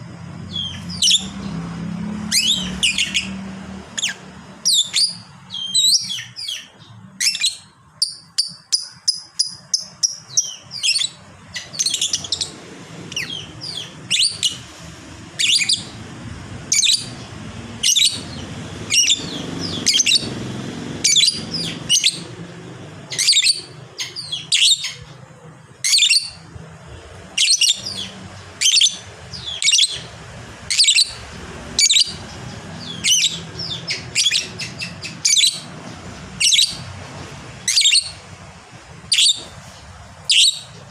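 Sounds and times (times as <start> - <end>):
lovebird high chirps: 0.4 - 1.6, 2.2 - 14.7, 15.3 - 16.0, 16.7 - 20.4, 21.0 - 22.4, 23.0 - 25.2, 25.8 - 26.5, 27.3 - 36.9, 37.6 - 38.3, 39.0 - 39.6, 40.2 - 40.8
lovebird chattering: 2.3 - 16.0, 16.6 - 25.2, 25.8 - 26.5, 27.3 - 36.9, 37.6 - 38.3, 39.0 - 39.6, 40.2 - 40.8.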